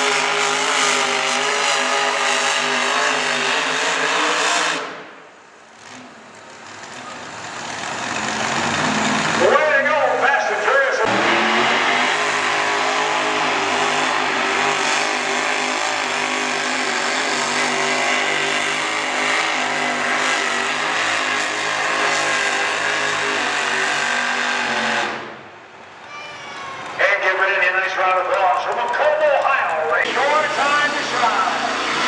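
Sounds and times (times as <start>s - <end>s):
tractor engine at high revs: 0.0s - 25.5s, 26.9s - 32.0s.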